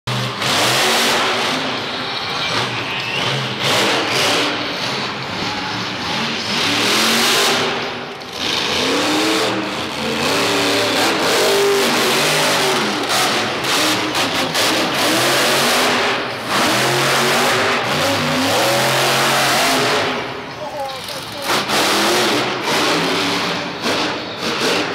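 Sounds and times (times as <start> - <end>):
monster truck engine revving: 0.1 - 24.9.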